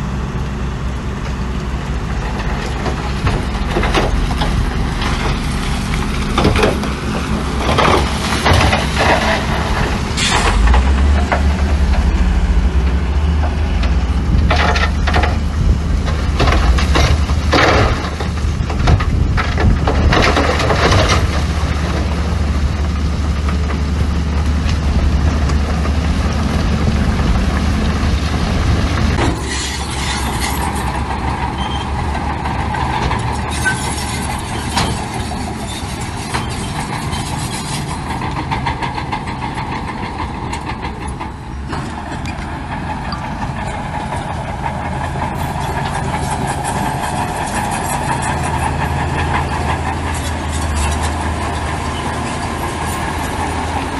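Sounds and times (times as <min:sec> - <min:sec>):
diesel machinery engine drone: 0:00.0 - 0:53.9.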